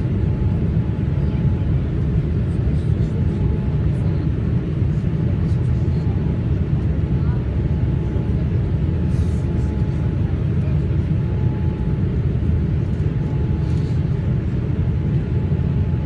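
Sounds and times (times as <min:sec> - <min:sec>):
airplane cabin engine roar: 0:00.0 - 0:16.0.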